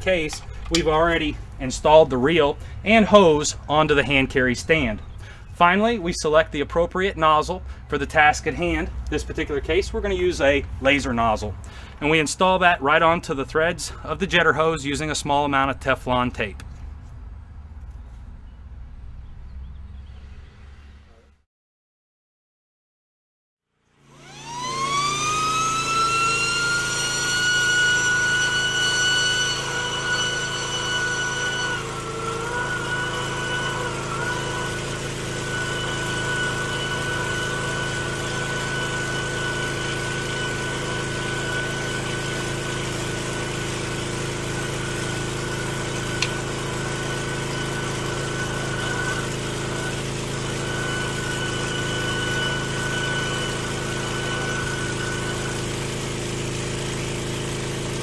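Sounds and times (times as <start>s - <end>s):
pressure washer engine whining: 0.0s - 15.1s, 24.0s - 58.0s.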